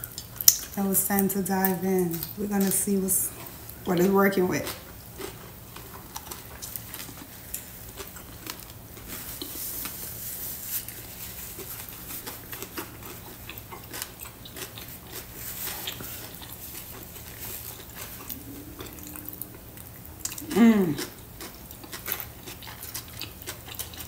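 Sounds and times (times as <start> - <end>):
faint low hum: 0.0 - 24.0
person chewing crunchy food: 0.0 - 24.0.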